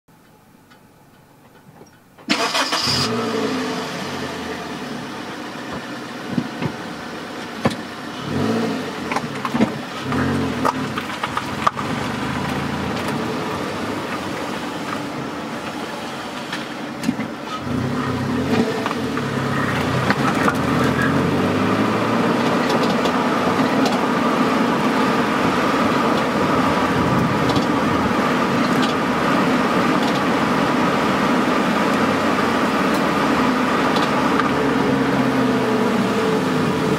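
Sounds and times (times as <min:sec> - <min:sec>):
car exhaust note: 0:03.0 - 0:36.9.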